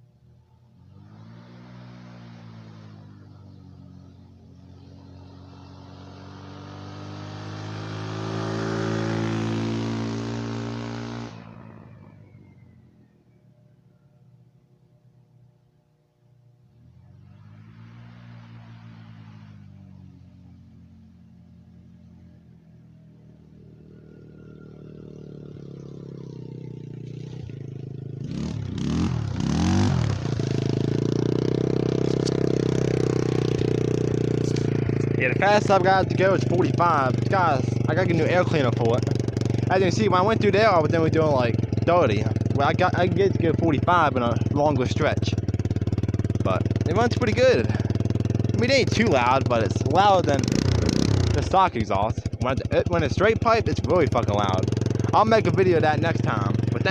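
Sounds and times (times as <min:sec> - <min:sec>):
scooter engine drone passing: 0:00.0 - 0:56.9.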